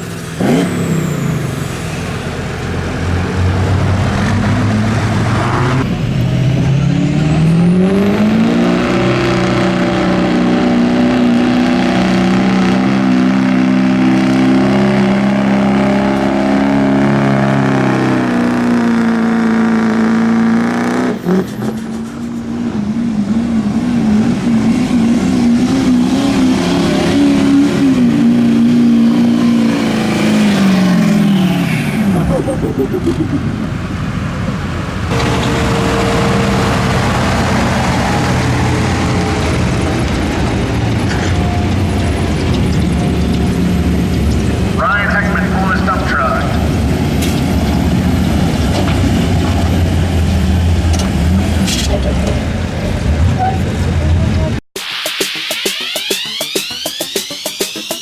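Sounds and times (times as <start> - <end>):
truck engine running hard: 0.0 - 54.6.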